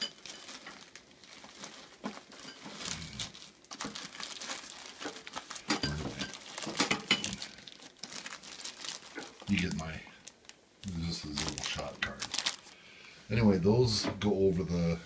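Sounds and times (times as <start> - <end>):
plastic bags crinkling: 0.0 - 12.8.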